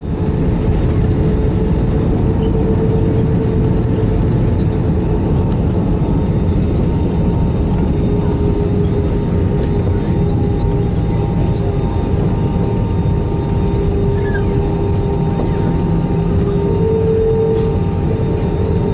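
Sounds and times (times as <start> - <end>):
constant cabin hum: 0.0 - 18.9
jet engine and airflow rumble: 0.0 - 18.9.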